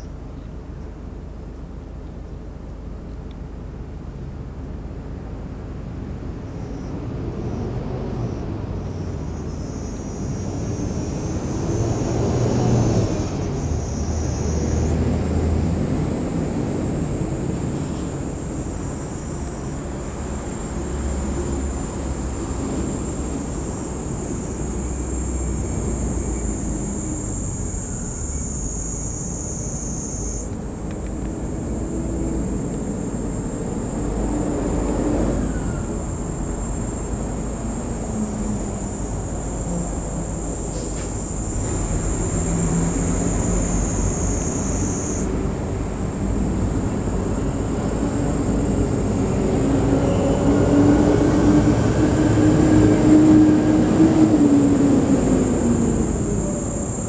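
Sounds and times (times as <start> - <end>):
high-pitched whine: 6.4 - 57.0.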